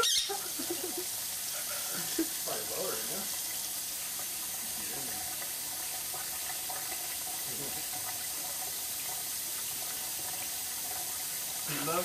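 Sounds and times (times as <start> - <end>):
faucet water splashing into sink: 0.0 - 12.0.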